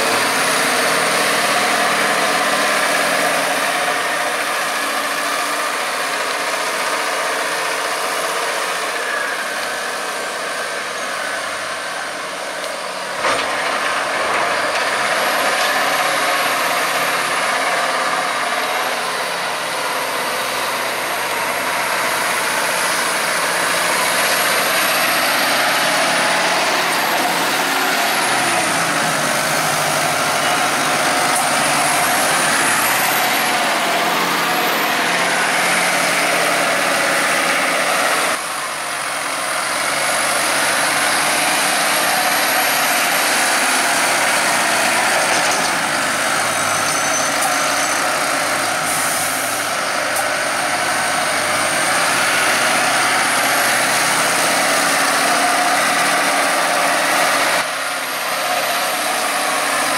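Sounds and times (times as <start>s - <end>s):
high engine whine: 0.0s - 59.9s
tractor engine running under load: 0.0s - 59.9s.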